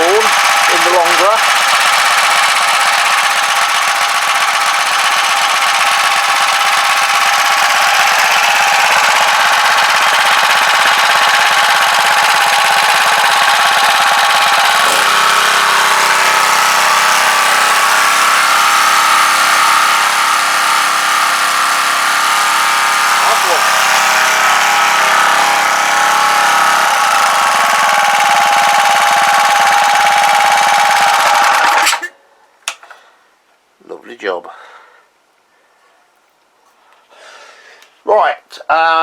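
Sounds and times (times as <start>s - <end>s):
small petrol engine running: 0.0s - 32.1s.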